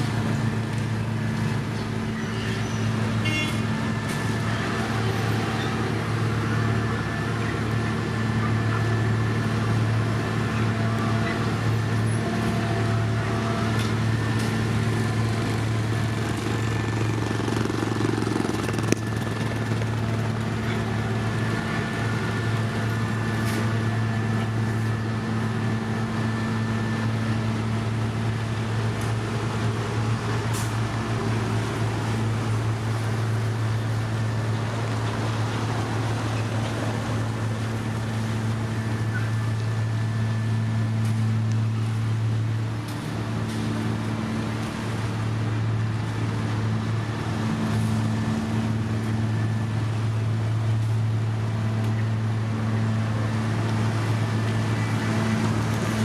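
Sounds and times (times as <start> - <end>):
machine engine humming: 0.0 - 56.0.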